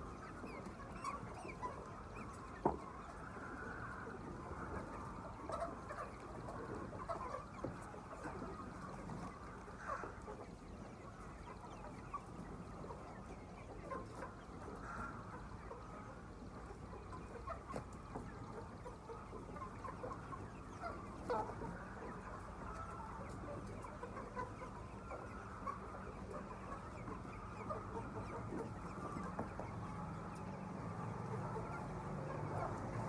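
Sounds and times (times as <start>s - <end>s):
chickens clucking and chirping: 0.0s - 33.0s.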